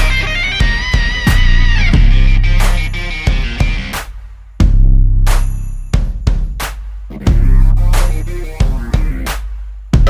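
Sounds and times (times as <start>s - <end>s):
music with drums and heavy bass: 0.0s - 10.0s.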